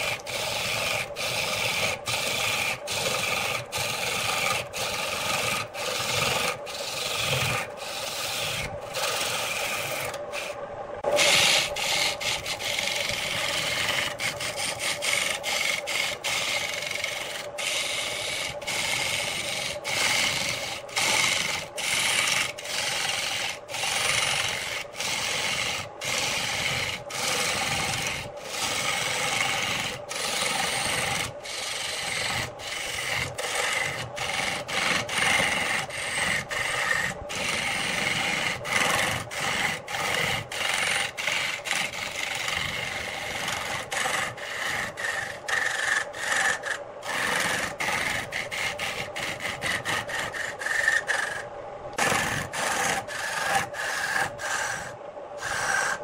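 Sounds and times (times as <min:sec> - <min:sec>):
lathe motor hum: 0:00.0 - 0:56.0
lathe tool scraping wood: 0:00.0 - 0:56.0.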